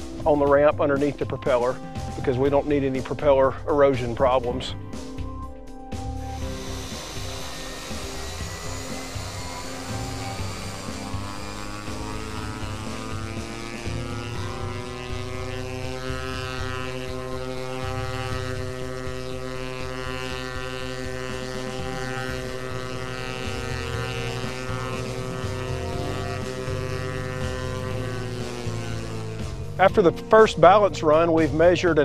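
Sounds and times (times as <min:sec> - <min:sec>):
turboprop engine drone: 0:00.0 - 0:32.0.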